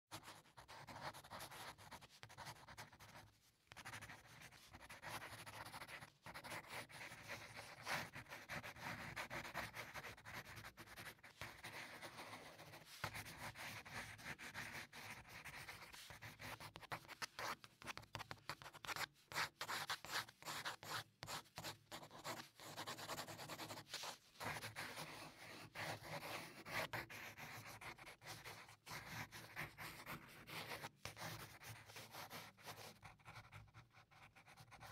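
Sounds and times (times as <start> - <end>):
pencil scratching on paper: 0.1 - 34.9.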